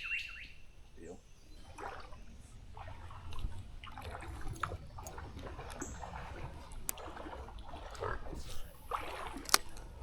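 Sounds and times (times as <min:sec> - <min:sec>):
creek water trickling: 0:00.0 - 0:10.0
small water splashes: 0:01.5 - 0:10.0.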